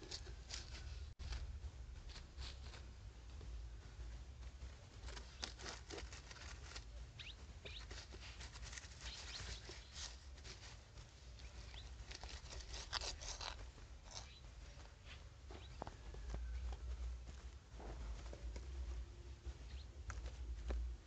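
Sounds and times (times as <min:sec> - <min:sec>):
low steady hum: 0:00.0 - 0:21.0
rabbits rustling in bedding: 0:00.0 - 0:21.0.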